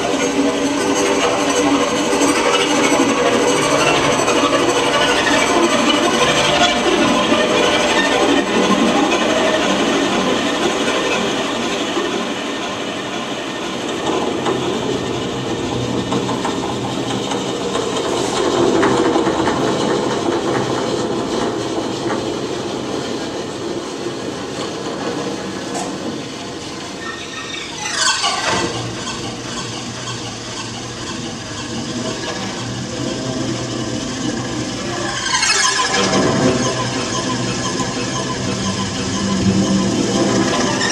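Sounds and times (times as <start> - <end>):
processed bowed cello texture: 0.0 - 40.9.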